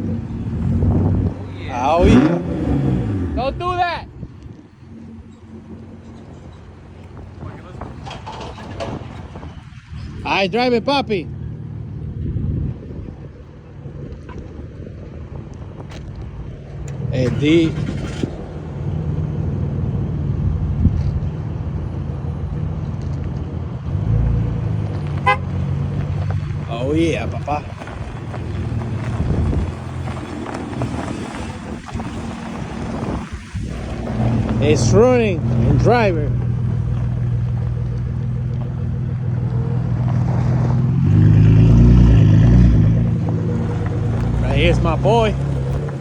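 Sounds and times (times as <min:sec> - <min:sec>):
car engine humming: 0:00.0 - 0:46.0.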